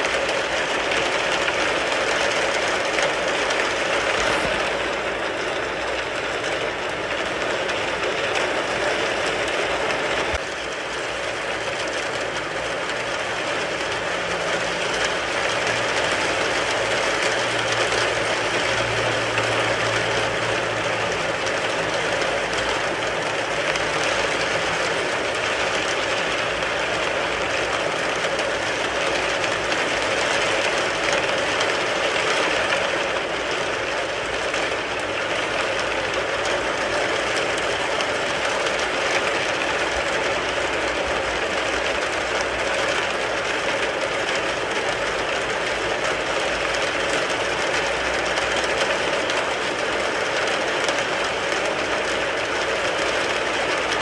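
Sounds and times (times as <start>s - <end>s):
rain falling on a car: 0.0s - 54.0s.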